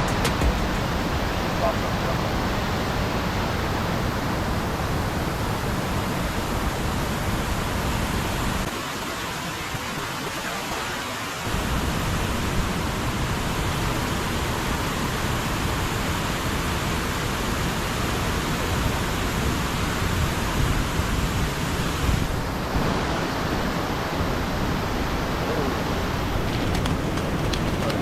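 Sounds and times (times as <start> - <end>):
rushing floodwater: 0.0 - 28.0.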